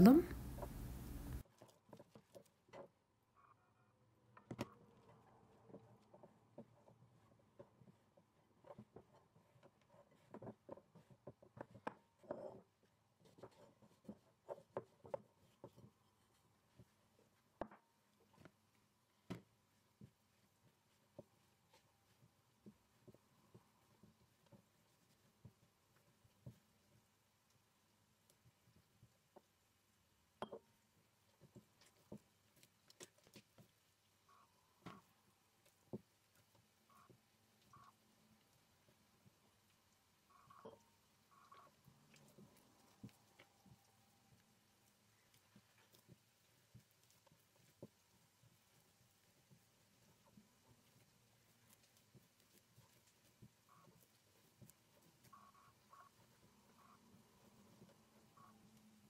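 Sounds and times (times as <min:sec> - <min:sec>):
hands squeezing dough in bowl: 0:04.2 - 0:59.0.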